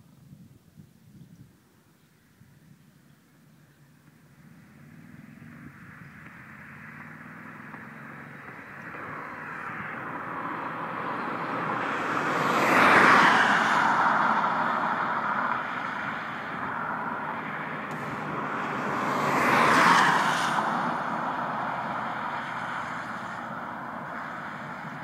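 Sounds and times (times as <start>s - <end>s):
vehicles passing at speed: 3.2s - 25.0s.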